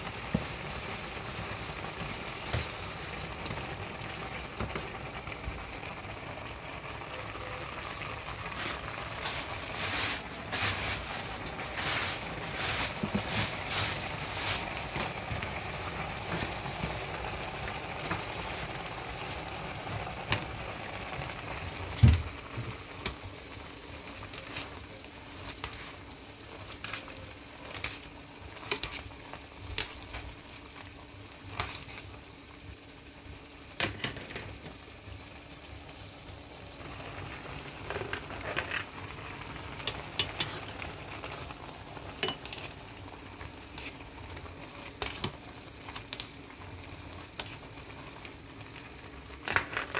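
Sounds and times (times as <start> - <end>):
meat sizzling in a pan: 0.0 - 49.9.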